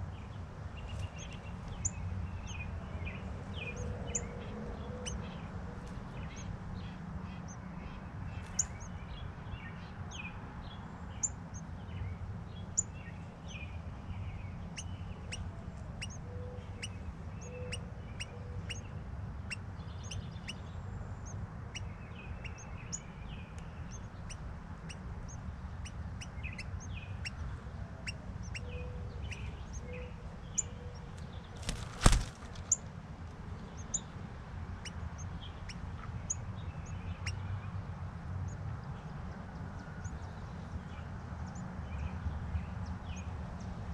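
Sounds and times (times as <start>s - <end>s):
birds chirping: 0.0s - 37.8s.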